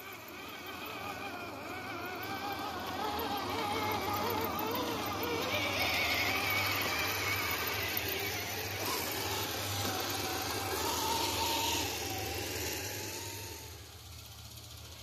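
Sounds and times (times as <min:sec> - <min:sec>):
rc crawler motors whining: 0:00.0 - 0:15.0.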